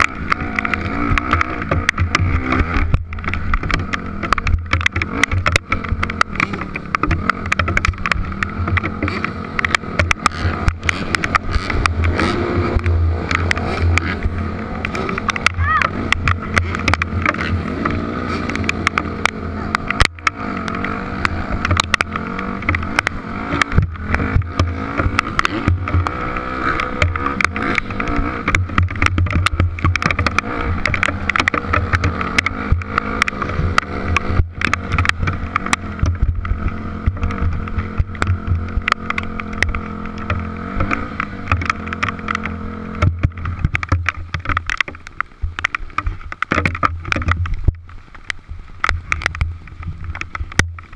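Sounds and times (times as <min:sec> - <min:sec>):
dirt bike engine: 0:00.0 - 0:50.9
hail ticking on camera: 0:00.0 - 0:50.9.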